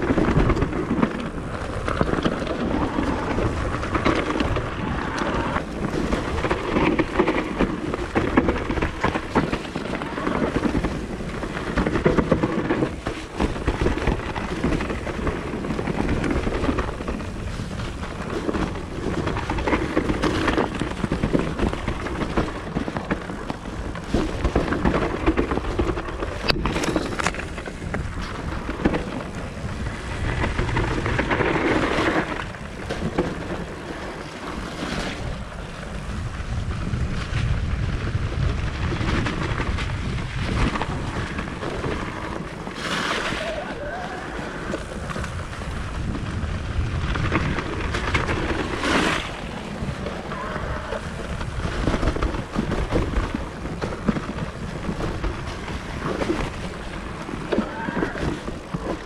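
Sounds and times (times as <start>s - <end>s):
mountain bike rumble and rattle: 0.0s - 59.0s
wind on microphone: 0.0s - 59.0s.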